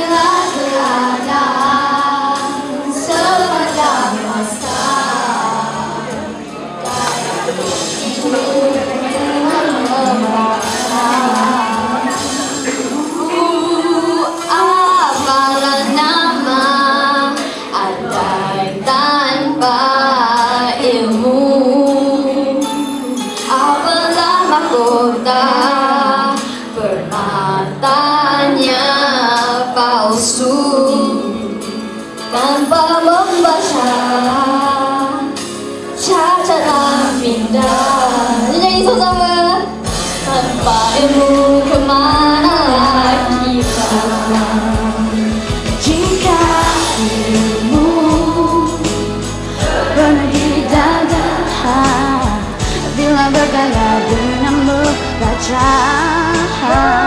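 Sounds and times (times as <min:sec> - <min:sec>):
backing track: 0:00.0 - 0:57.0
girls singing into microphones: 0:00.0 - 0:57.0.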